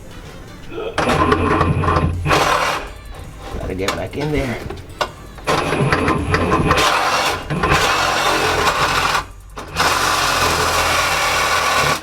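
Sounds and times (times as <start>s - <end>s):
power saw cutting exhaust pipe: 1.0s - 4.2s, 5.4s - 12.0s.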